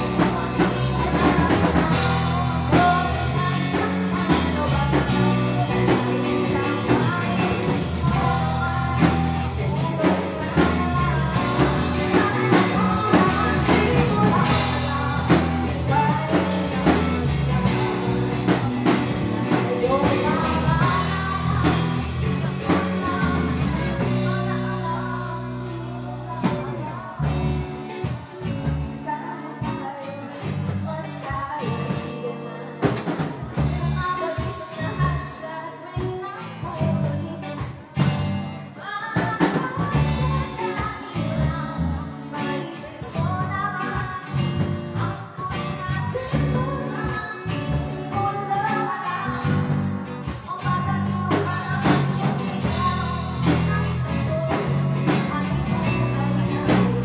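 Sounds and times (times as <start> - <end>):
live rock band playing: 0.0 - 57.0
woman singing: 0.0 - 57.0.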